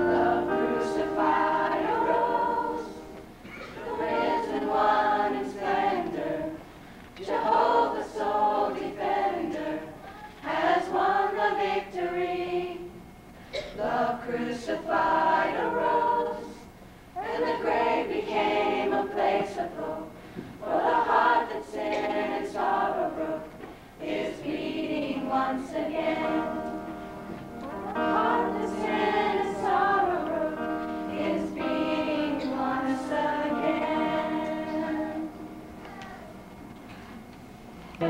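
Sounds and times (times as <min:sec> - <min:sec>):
group singing worship song: 0:00.0 - 0:35.8.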